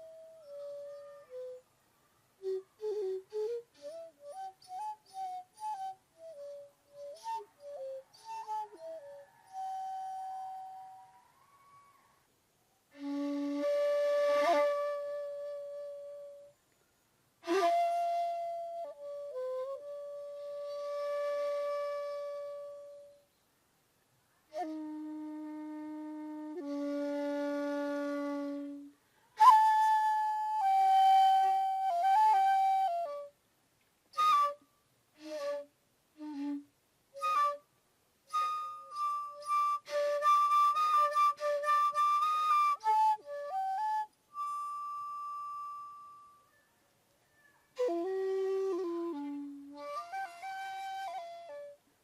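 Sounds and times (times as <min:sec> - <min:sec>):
bamboo flute slow held notes: 0:00.0 - 0:12.3, 0:12.9 - 0:23.4, 0:24.3 - 0:33.4, 0:34.1 - 0:52.0.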